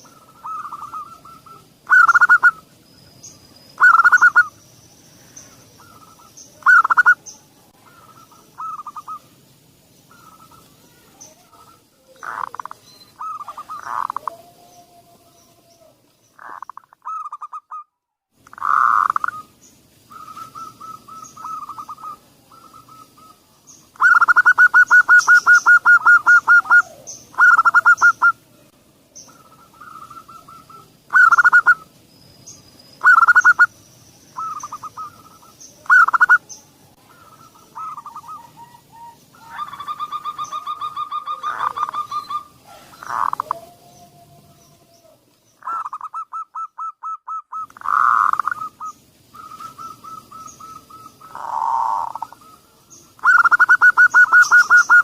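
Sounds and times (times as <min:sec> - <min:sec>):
doves cooing: 0:00.0 - 0:02.8, 0:03.8 - 0:04.6, 0:05.3 - 0:17.8, 0:18.4 - 0:28.6, 0:29.2 - 0:31.9, 0:33.0 - 0:55.0
high chirps of small birds: 0:00.0 - 0:17.8, 0:18.4 - 0:28.4, 0:29.1 - 0:55.0.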